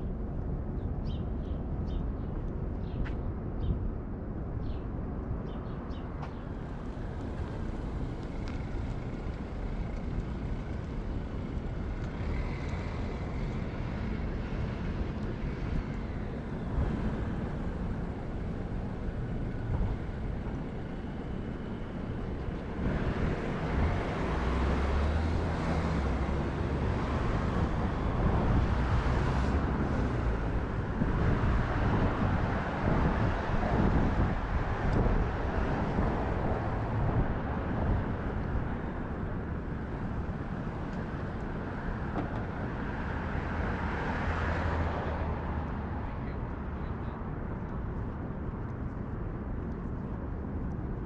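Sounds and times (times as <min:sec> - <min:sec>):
wind rumbling on microphone: 0:00.0 - 0:51.0
car traffic passing: 0:06.2 - 0:47.9.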